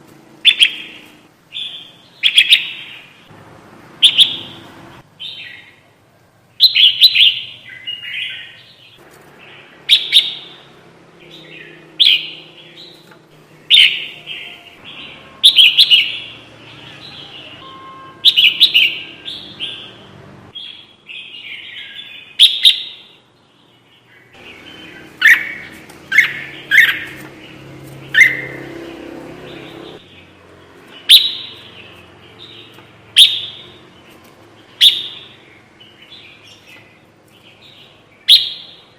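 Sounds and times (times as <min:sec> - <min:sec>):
bird chirping: 0:00.4 - 0:03.3, 0:04.0 - 0:05.9, 0:06.5 - 0:38.9
quiet bird chatter: 0:04.0 - 0:38.9.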